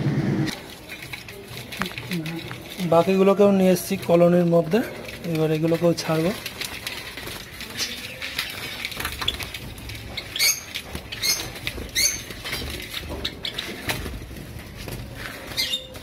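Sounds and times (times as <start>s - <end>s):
birds flapping wings in cage: 0.5s - 16.0s.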